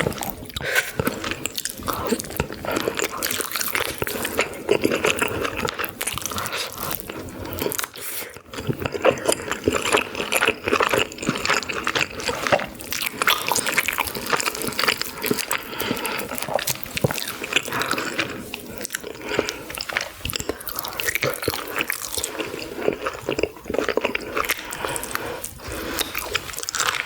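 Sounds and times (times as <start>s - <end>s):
person chewing with wet mouth sounds: 0.0s - 27.0s.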